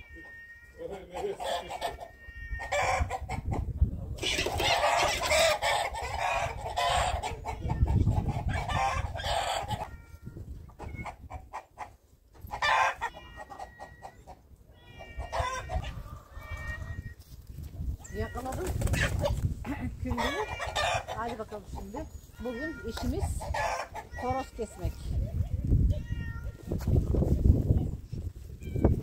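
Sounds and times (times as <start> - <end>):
chickens clucking: 0.2 - 25.8.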